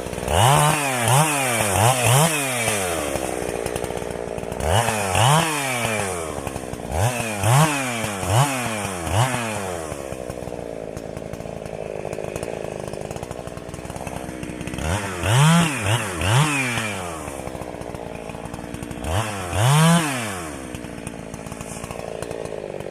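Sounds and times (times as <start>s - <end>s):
chainsaw idling and revving: 0.0s - 22.9s.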